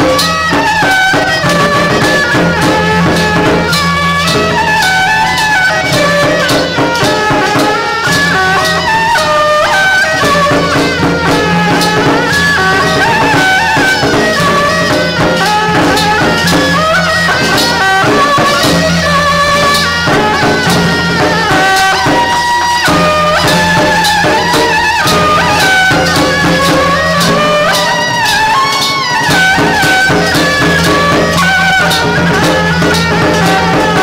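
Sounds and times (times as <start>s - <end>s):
cymbal strokes: 0.0s - 34.0s
drum strokes: 0.0s - 34.0s
reedy wind melody: 0.0s - 34.0s.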